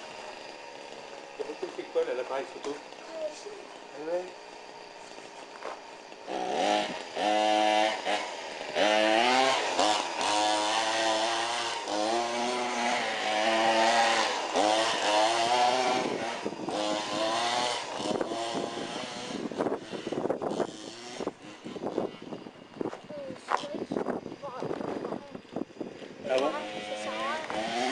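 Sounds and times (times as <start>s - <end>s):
remote-control car engine revving: 0.0s - 22.6s, 26.1s - 27.9s.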